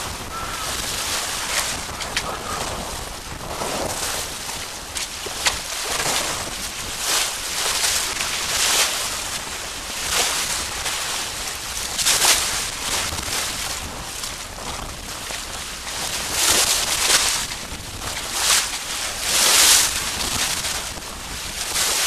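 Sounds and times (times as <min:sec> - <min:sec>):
bow wave rushing along hull: 0:00.0 - 0:22.0.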